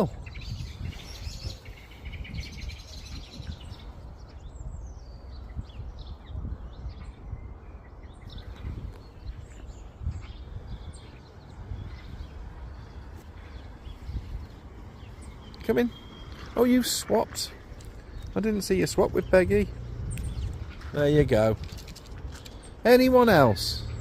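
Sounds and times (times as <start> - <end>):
small birds chirping: 0.0 - 24.0
steady low rumble: 0.1 - 24.0.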